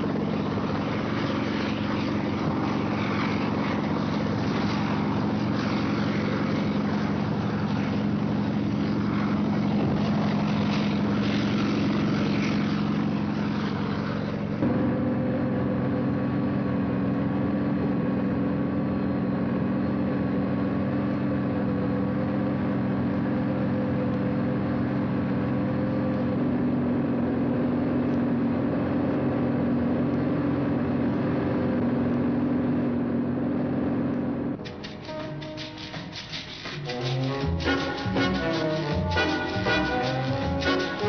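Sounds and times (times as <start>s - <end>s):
helicopter engine and rotor drone: 0.0s - 41.0s.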